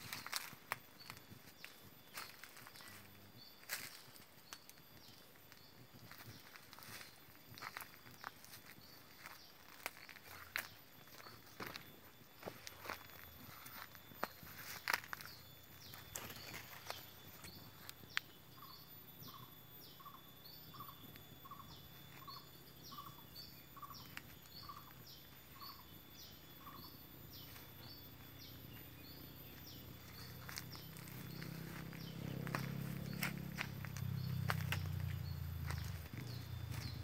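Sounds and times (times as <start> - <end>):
footsteps through undergrowth: 0.0 - 18.7, 21.0 - 37.0.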